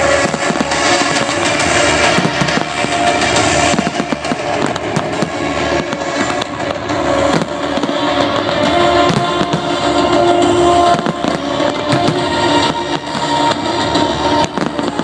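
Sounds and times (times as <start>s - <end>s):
fireworks crackling: 0.0s - 15.0s
fireworks shells bursting: 0.0s - 15.0s
music with long held notes: 0.0s - 15.0s.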